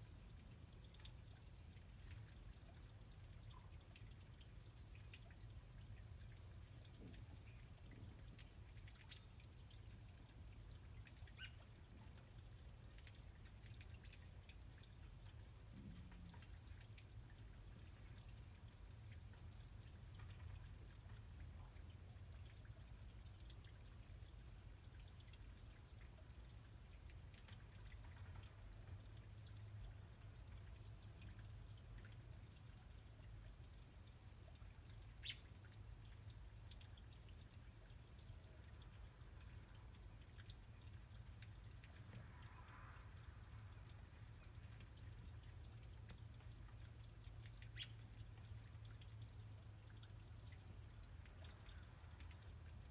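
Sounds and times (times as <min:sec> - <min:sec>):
soft sharp ticks: 0:00.0 - 0:52.9.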